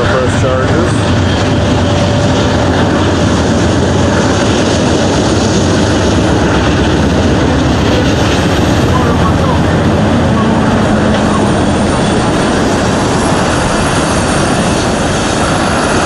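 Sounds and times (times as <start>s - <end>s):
freight train rumbling and rattling: 0.0s - 16.0s.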